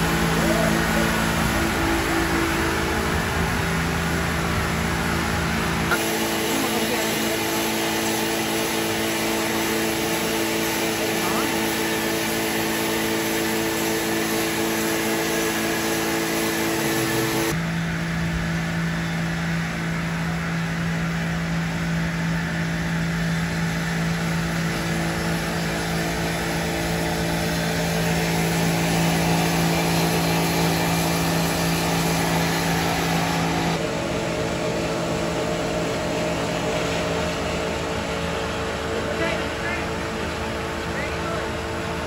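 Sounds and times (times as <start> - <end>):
sawmill machinery running: 0.0 - 42.0
steady motor hum: 0.0 - 42.0.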